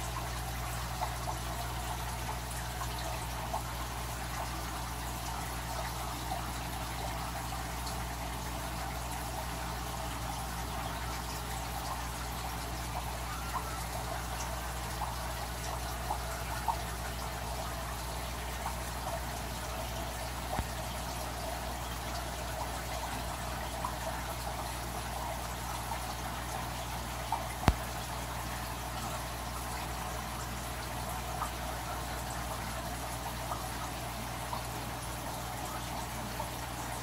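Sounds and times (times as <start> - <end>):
aquarium water trickling and bubbling: 0.0 - 37.0.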